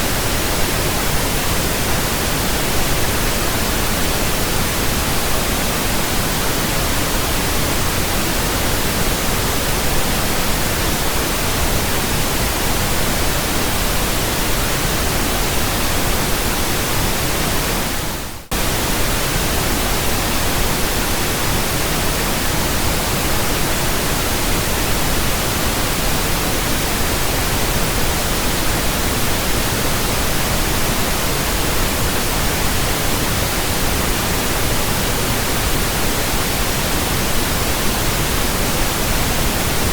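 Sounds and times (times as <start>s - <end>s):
steady pink noise: 0.0s - 39.9s.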